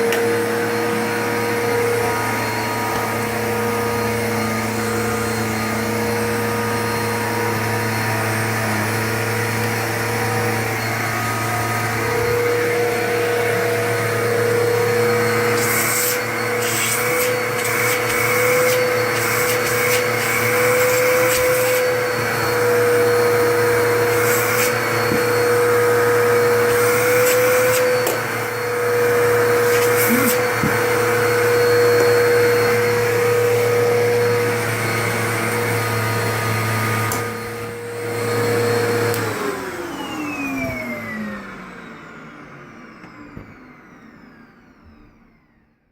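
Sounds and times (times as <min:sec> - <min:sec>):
vacuum cleaner motor whine: 0:00.0 - 0:45.9.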